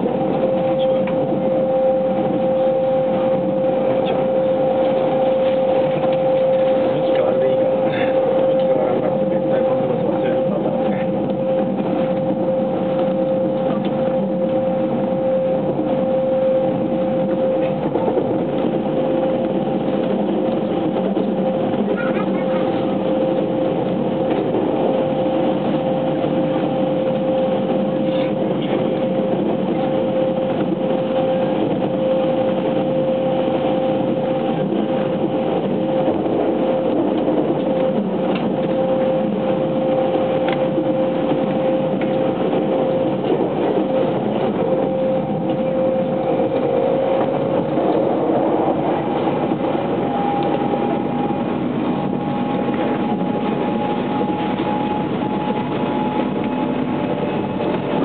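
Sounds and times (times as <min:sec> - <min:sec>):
train motor whine: 0:00.0 - 0:58.0
train wheels rumbling on rail: 0:00.0 - 0:58.0.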